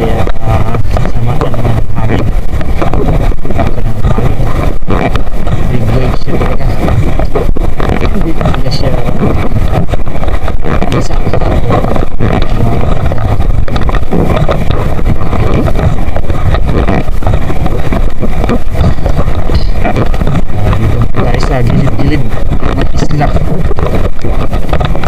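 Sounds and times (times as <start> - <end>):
boat motor running: 0.0 - 25.0
waves against hull: 0.0 - 25.0
wind: 0.0 - 25.0.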